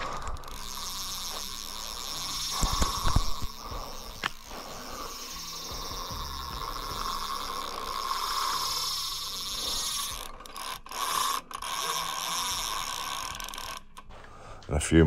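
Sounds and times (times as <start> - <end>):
fishing reel drag clicking: 0.0 - 14.4.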